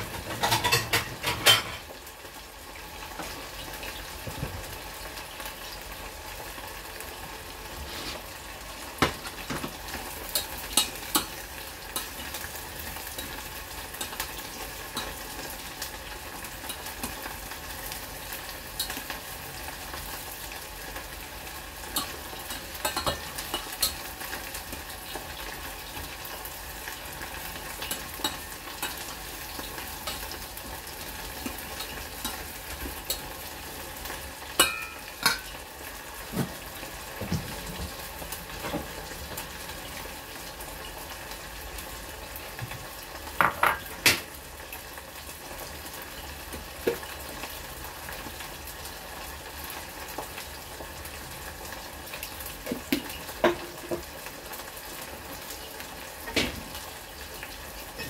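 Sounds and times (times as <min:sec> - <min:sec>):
meat sizzling in oil: 0:00.0 - 0:58.0.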